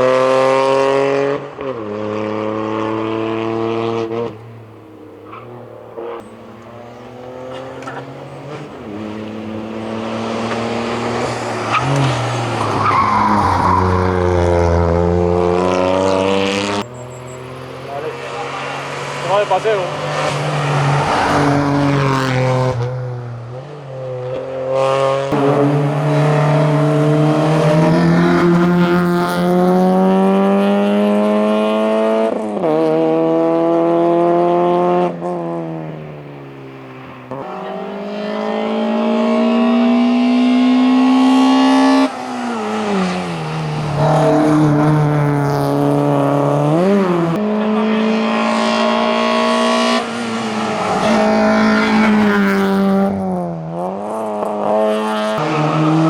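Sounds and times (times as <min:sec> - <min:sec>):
race car engine revving through gears: 0:00.0 - 0:56.0.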